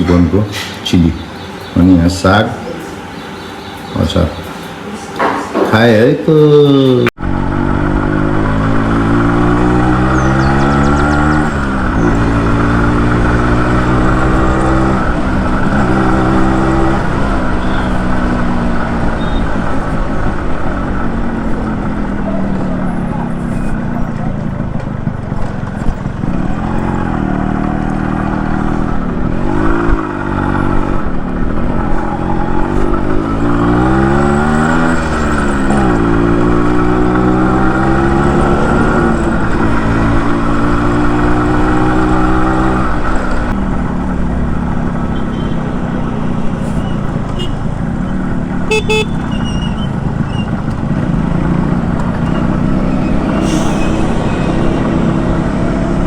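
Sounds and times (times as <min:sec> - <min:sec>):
two-stroke motorcycle engine: 0:07.2 - 0:56.0.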